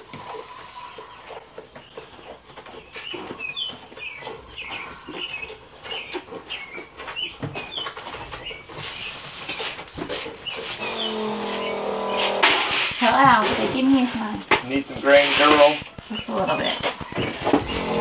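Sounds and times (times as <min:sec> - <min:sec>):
birds chirping: 0:00.0 - 0:18.0
soft rustles and light taps: 0:01.3 - 0:10.8, 0:12.4 - 0:17.7.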